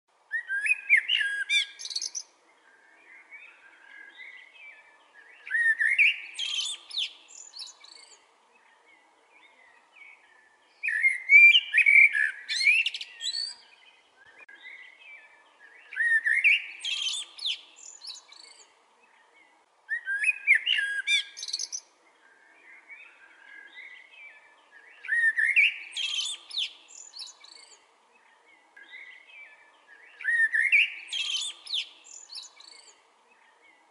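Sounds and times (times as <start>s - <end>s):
blackbird singing: 0.3s - 33.9s.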